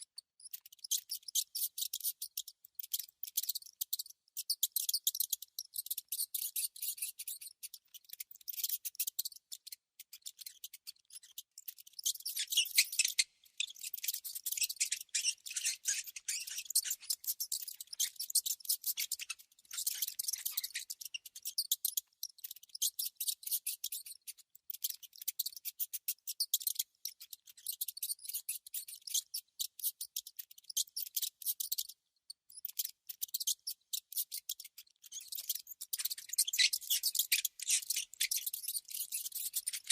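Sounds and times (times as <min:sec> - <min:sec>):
mouse squeaking and chittering: 0:00.0 - 0:39.9.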